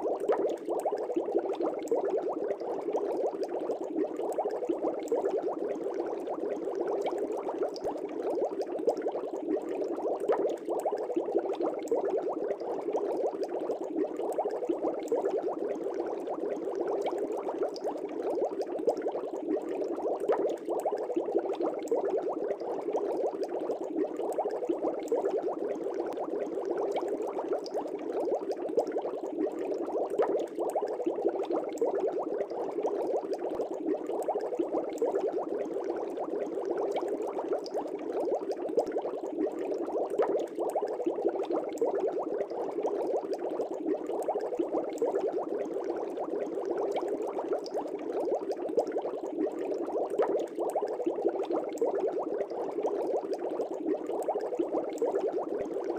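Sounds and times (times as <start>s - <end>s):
aquarium air bubbles: 0.0s - 55.9s.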